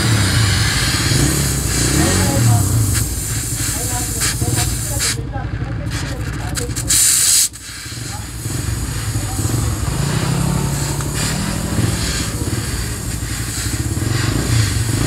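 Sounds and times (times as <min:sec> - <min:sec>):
gas torch hissing: 0:00.0 - 0:05.2, 0:05.9 - 0:15.0
low engine-like hum: 0:00.0 - 0:15.0.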